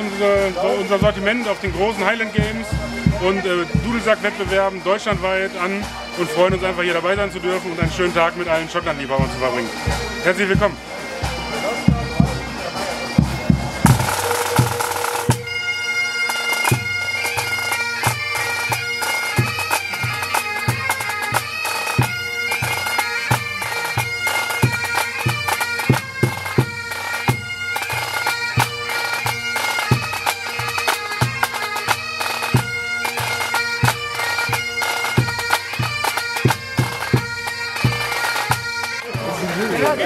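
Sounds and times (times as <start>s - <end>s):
bagpipes playing: 0.0s - 40.0s
drum strokes: 0.0s - 40.0s.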